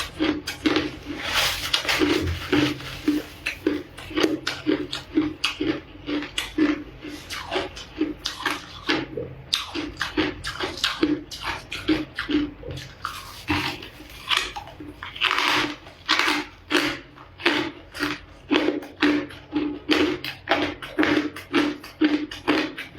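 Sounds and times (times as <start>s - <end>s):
ice crunching between teeth: 0.0s - 22.9s.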